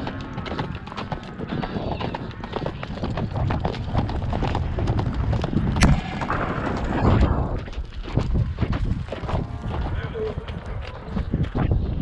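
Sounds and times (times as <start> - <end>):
hoofbeats on gravel: 0.0 - 12.0.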